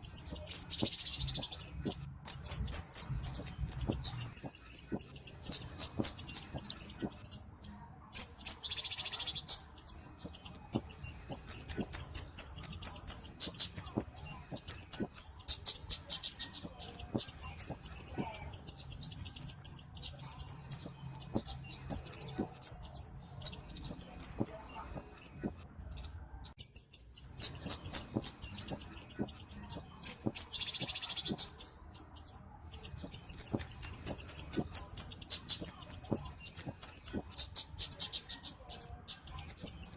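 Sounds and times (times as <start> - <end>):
bird high thin ticking chirps: 0.0 - 39.9.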